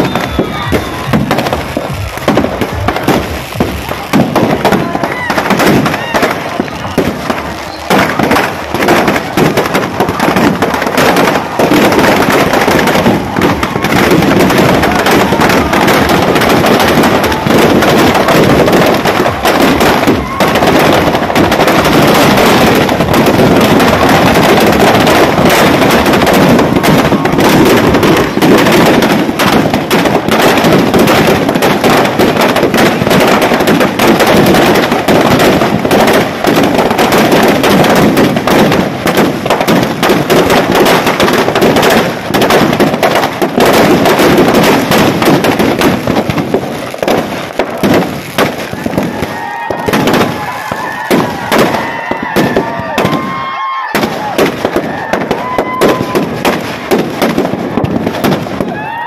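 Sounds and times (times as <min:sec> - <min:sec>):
firecrackers banging and crackling: 0:00.0 - 0:59.0.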